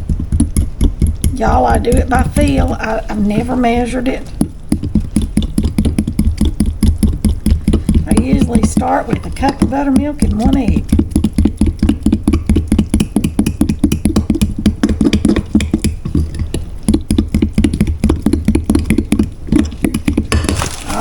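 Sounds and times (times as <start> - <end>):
utensil knocking against mixing bowl: 0.0 - 20.8.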